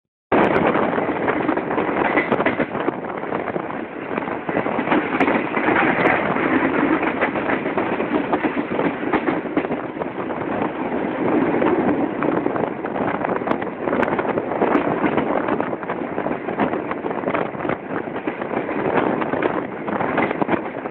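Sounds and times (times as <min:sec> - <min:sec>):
train wheels clattering over rails: 0:00.4 - 0:20.9.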